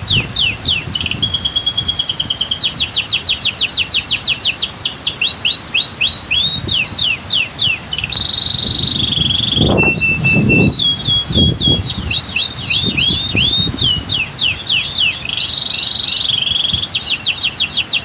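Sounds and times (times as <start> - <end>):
canary singing: 0.0 - 18.0.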